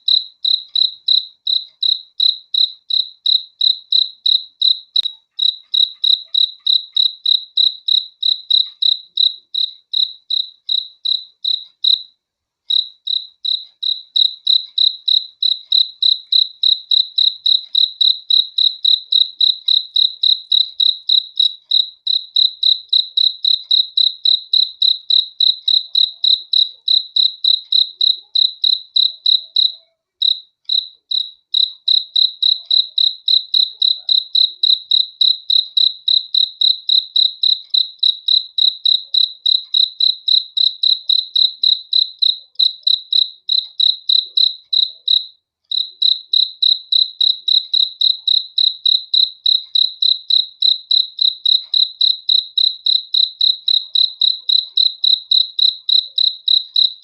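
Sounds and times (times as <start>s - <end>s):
cricket chirping: 0.0s - 12.1s, 12.7s - 57.0s.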